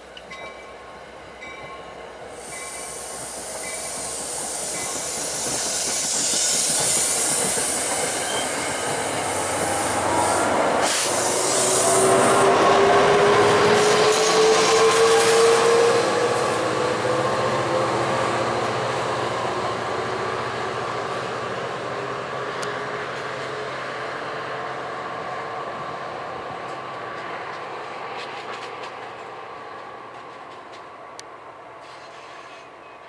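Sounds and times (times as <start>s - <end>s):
diesel locomotive whine: 0.0s - 33.0s
train coaches rolling by: 0.0s - 33.0s.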